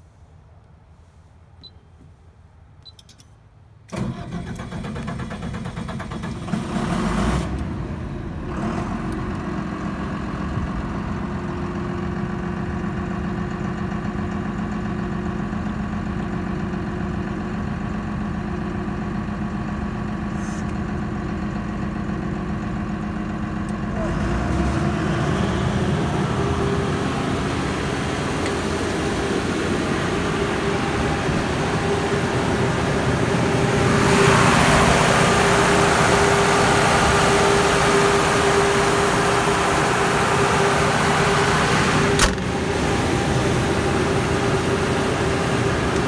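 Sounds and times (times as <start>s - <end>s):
diesel generator engine running: 3.9s - 46.0s.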